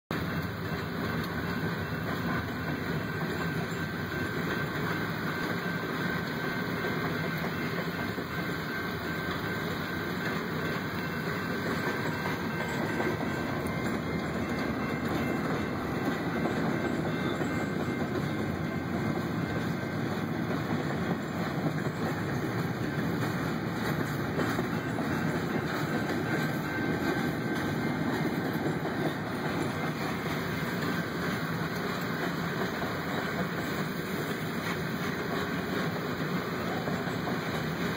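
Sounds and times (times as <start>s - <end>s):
freight train wheels on rails: 0.1s - 37.9s.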